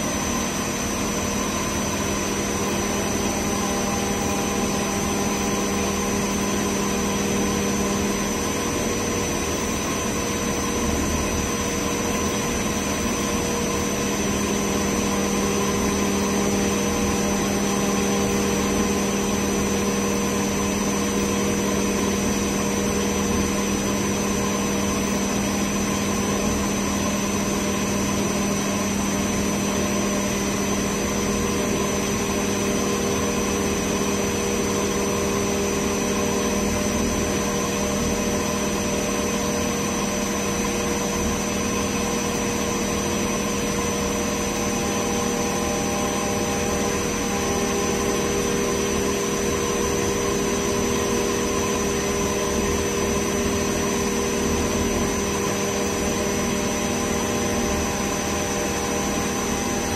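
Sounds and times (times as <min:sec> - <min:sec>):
cnc router milling aluminum: 0:00.0 - 0:59.9.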